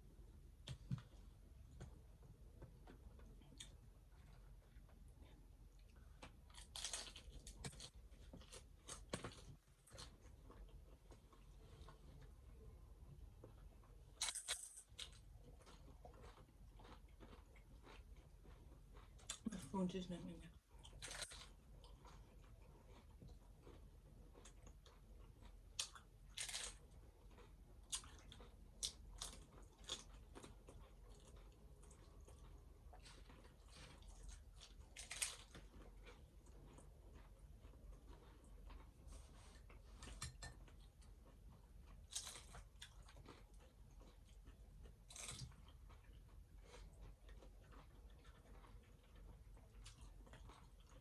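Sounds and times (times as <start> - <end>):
taco shells crunching: 5.8 - 12.0, 13.4 - 19.5, 20.8 - 38.9, 40.0 - 51.0.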